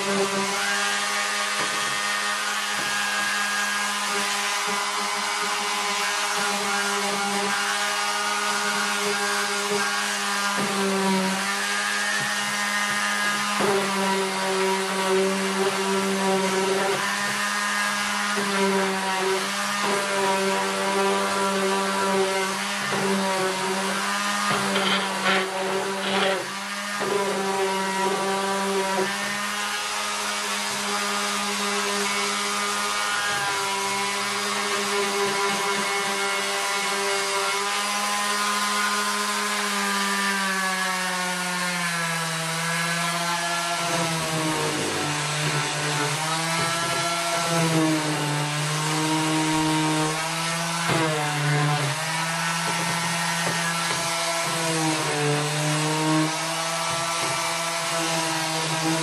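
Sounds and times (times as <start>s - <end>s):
orbital sander on wood: 0.0s - 59.0s.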